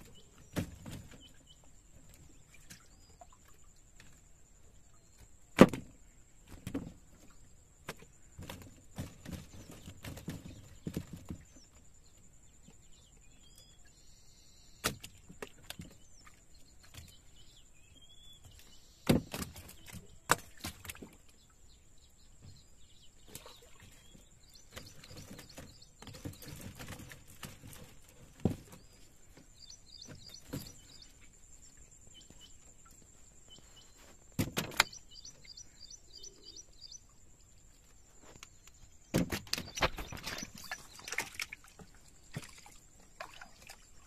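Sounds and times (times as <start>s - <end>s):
birds chirping: 0.0s - 5.3s, 5.9s - 44.0s.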